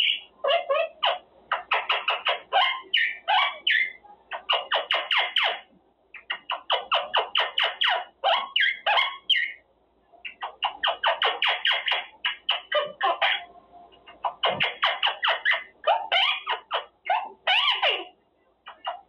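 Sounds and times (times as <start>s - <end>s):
parrot squawky chattering: 0.0s - 9.6s, 10.2s - 19.0s.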